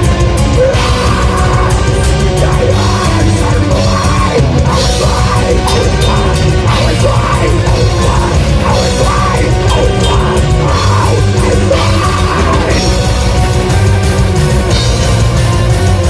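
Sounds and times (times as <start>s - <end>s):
distorted electric guitars: 0.0s - 16.0s
fast drum kit: 0.0s - 16.0s.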